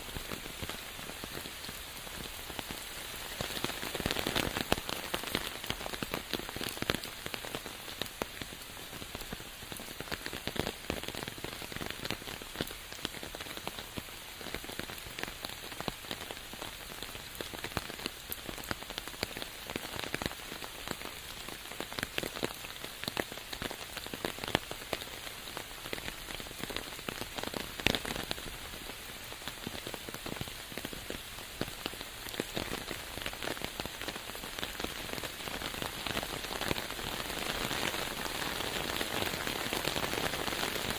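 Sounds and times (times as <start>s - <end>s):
raindrops ticking and spattering: 0.0s - 40.9s
steady rainfall: 0.0s - 40.9s.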